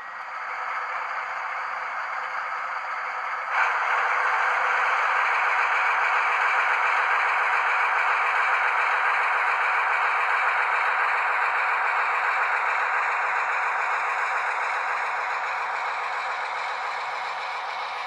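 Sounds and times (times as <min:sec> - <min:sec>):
model train diesel engine sound: 0:00.0 - 0:18.0.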